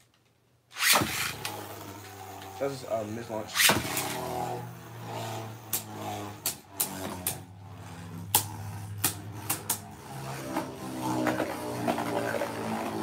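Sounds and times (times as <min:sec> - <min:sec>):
spinning tops whirring: 0:00.7 - 0:13.0.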